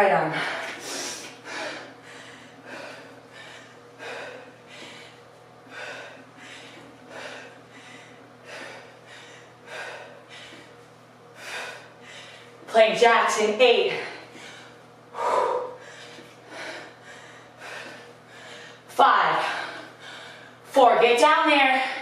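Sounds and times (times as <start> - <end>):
woman breathing hard: 0.3 - 12.7, 13.9 - 20.7.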